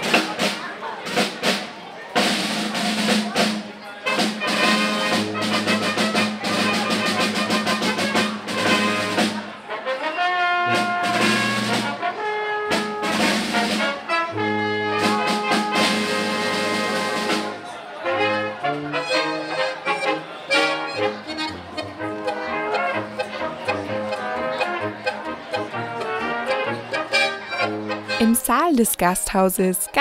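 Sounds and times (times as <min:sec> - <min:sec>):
folk brass band playing: 0:00.0 - 0:30.0.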